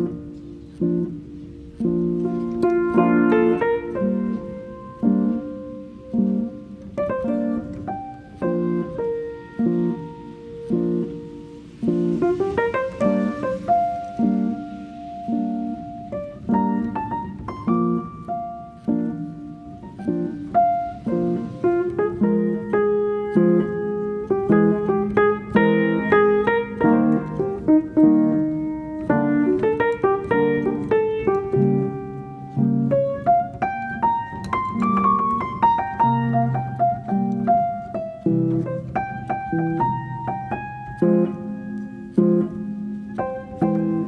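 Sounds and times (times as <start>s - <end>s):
solo piano music: 0.0s - 44.0s.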